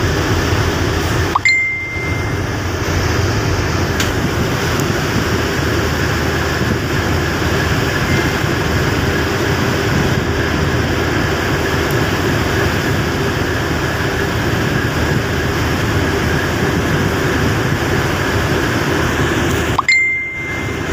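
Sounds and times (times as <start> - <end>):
outdoor rumble and hiss: 0.0 - 20.9.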